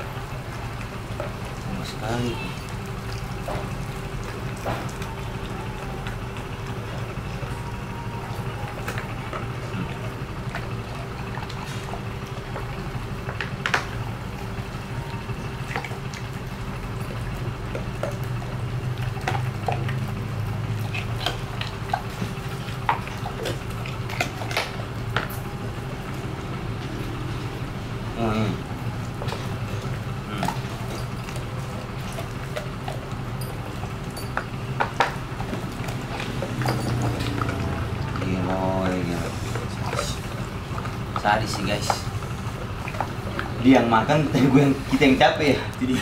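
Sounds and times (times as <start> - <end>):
dog gnawing on bone: 0.0 - 45.9
steady low hum: 0.0 - 46.0.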